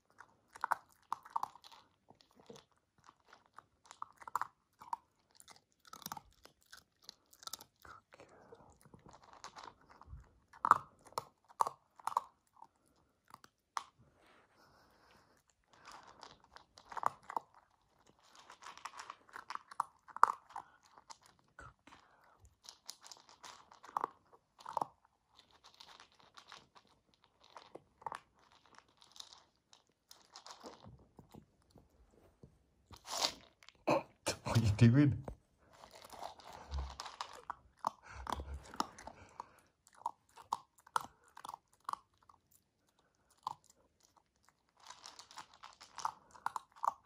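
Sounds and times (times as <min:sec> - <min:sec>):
puppy crunching dry kibble: 0:00.0 - 0:32.1, 0:32.9 - 0:33.8, 0:34.5 - 0:47.0.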